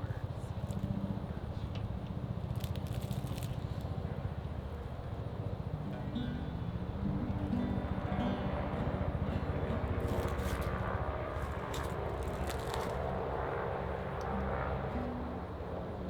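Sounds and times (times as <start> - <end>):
low engine-like rumble: 0.0 - 16.0.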